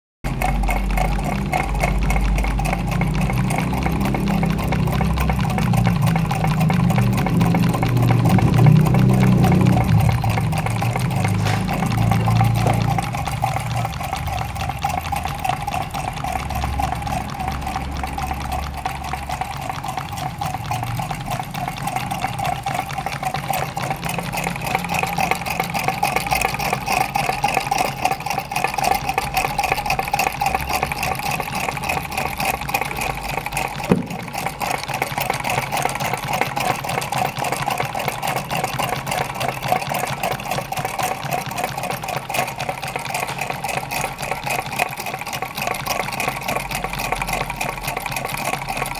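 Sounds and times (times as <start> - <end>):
small engines clattering: 0.2 - 48.9.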